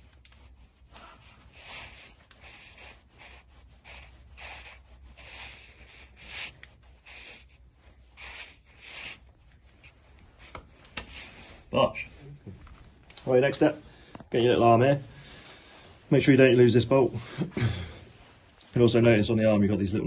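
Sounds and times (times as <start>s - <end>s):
jacket sleeve rubbing and rustling: 0.0s - 20.0s.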